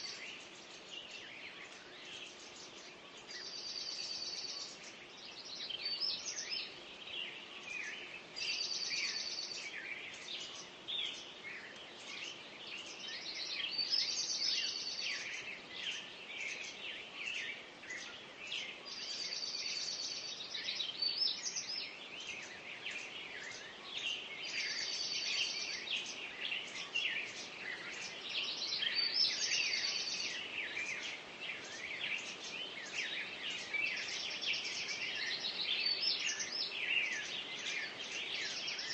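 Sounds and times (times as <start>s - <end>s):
birds chirping and whistling: 0.0s - 38.9s.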